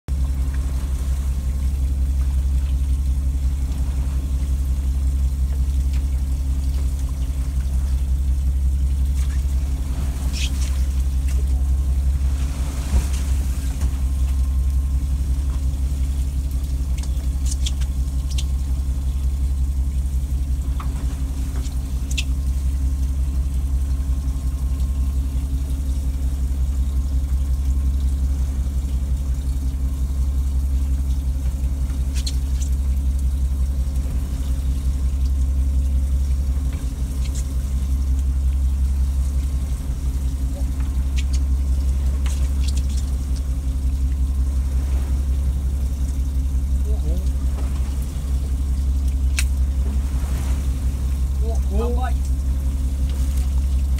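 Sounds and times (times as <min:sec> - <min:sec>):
boat engine running: 0:00.1 - 0:53.9.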